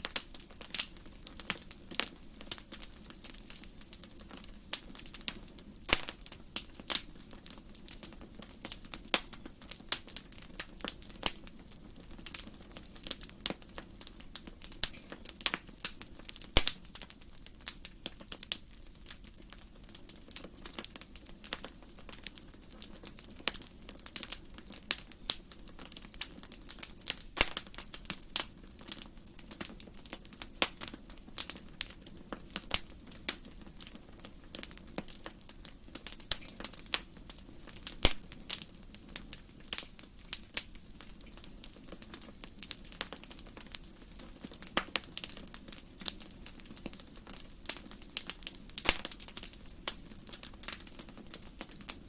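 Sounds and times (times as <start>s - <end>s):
fire low rumble: 0.0s - 52.0s
wood fire crackling: 0.0s - 52.0s.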